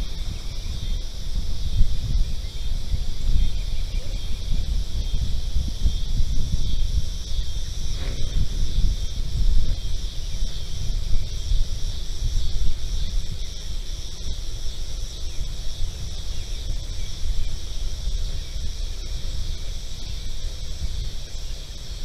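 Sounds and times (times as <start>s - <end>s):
insects shrilling: 0.0s - 22.0s
wind buffeting microphone: 0.0s - 22.0s.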